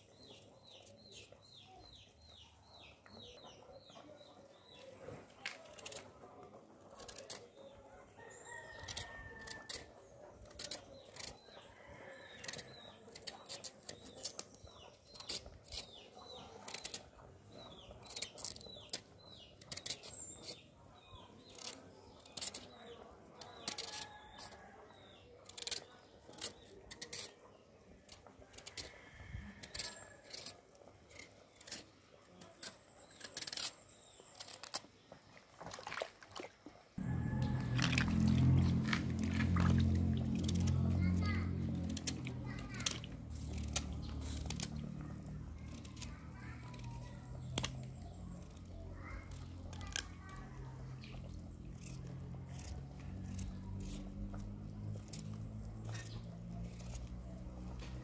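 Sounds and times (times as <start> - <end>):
knife cutting vegetable skin: 5.4 - 6.2, 6.9 - 7.6, 8.4 - 27.4, 28.0 - 34.9, 37.0 - 58.0.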